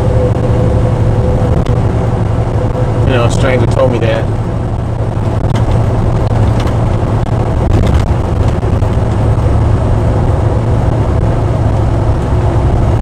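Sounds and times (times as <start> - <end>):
road noise: 0.0 - 13.0
truck diesel engine drone: 0.0 - 13.0.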